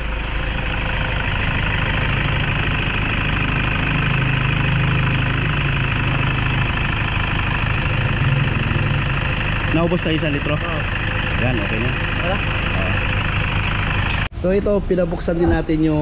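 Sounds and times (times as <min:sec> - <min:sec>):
diesel engine idling: 0:00.0 - 0:14.6.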